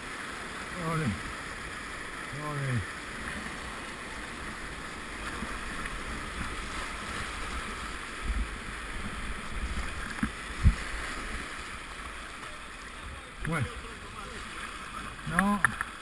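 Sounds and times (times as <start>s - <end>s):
whitewater river rushing: 0.0s - 16.0s.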